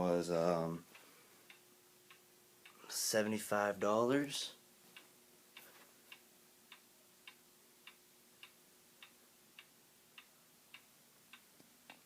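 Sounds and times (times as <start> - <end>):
faint steady hum: 0.0 - 12.0
faint regular ticking: 0.7 - 3.4, 4.2 - 12.0.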